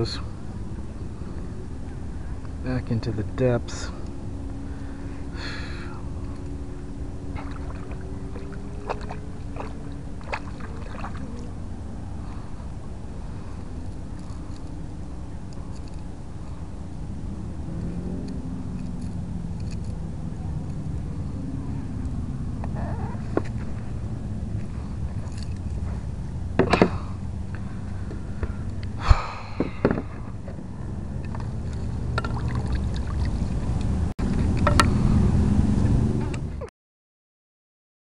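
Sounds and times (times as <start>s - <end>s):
boat motor running: 0.0s - 36.7s.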